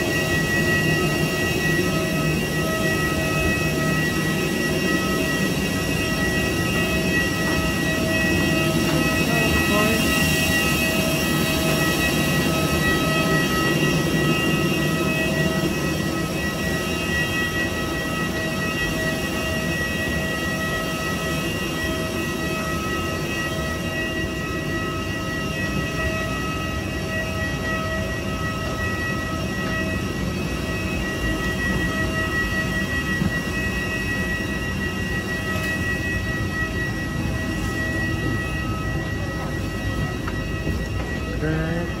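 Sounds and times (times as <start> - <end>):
airliner systems high whine: 0.0 - 42.0.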